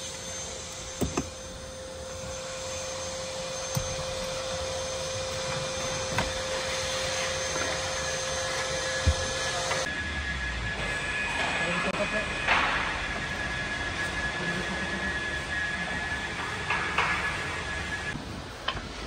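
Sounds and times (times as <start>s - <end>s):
whirring motor hum: 0.0s - 19.0s.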